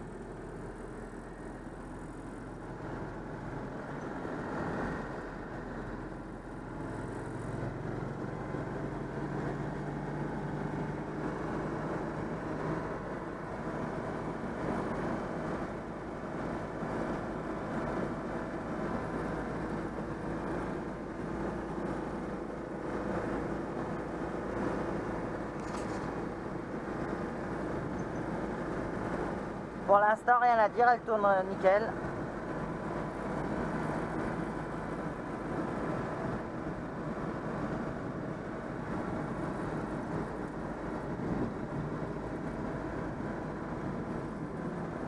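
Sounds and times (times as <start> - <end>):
car engine running: 0.0 - 45.0
road noise: 0.0 - 45.0.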